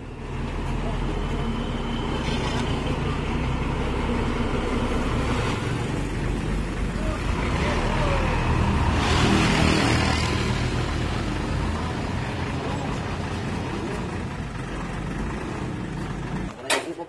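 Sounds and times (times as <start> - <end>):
diesel truck engine running: 0.0 - 16.6.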